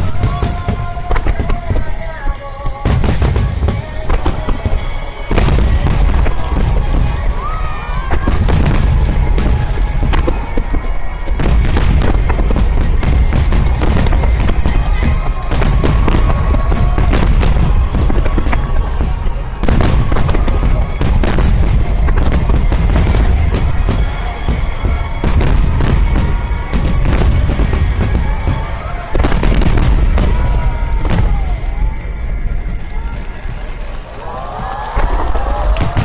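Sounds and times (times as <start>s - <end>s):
fireworks booming and cracking: 0.0s - 36.0s
music: 0.0s - 36.0s.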